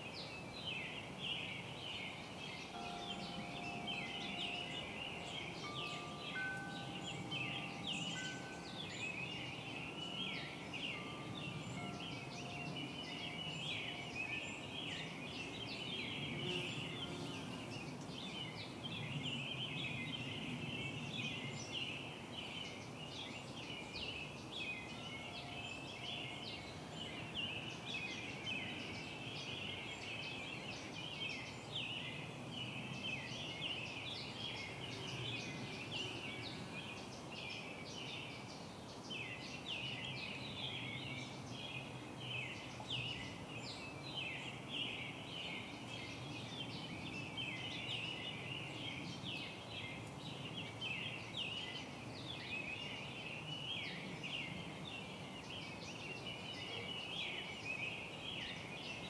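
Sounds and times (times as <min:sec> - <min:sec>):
low steady background hiss: 0:00.0 - 0:59.0
small birds chirping: 0:00.0 - 0:59.0.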